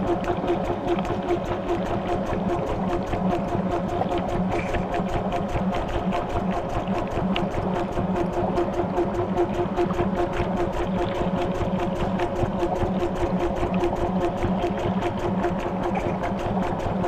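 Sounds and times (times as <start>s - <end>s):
washing machine pulsing hum: 0.0s - 17.0s.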